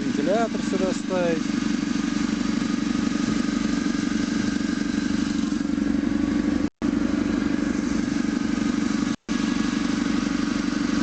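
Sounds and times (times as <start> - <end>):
petrol engine idling: 0.0 - 11.0.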